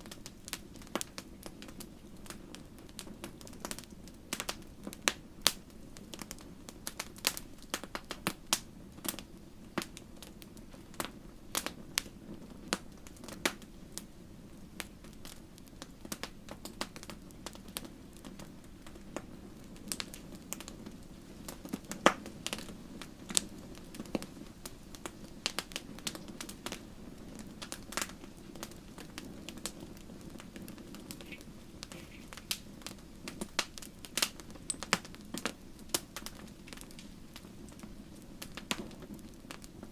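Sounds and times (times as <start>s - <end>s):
wood fire pops and snaps: 0.0s - 14.1s, 14.8s - 39.9s
low rumble of flames: 0.0s - 39.9s.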